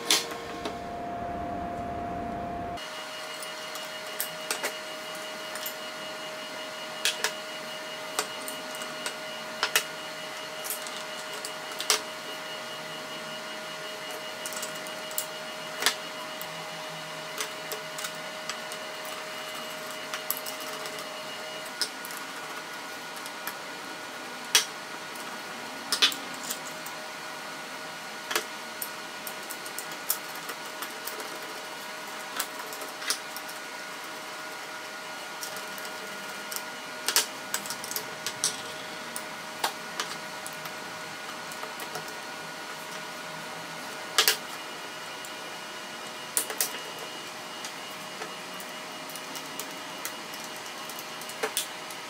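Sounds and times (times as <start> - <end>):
steady hum with faint whine: 0.0 - 52.0.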